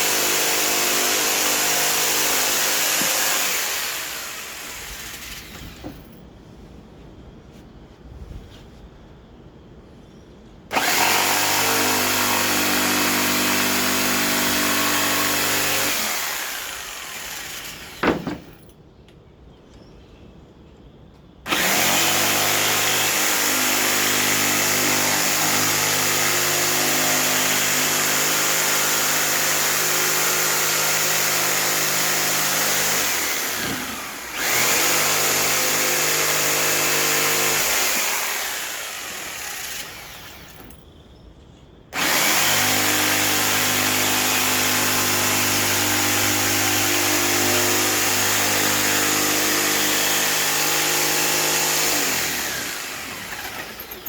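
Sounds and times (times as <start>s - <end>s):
electric power saw cutting wood: 0.0s - 6.0s, 10.7s - 18.5s, 21.5s - 40.6s, 42.0s - 54.0s.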